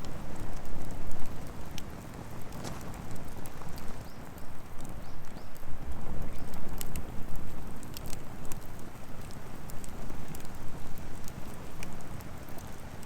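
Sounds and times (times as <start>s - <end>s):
fire low rumble: 0.0s - 13.0s
firewood crackling and popping: 0.0s - 13.0s.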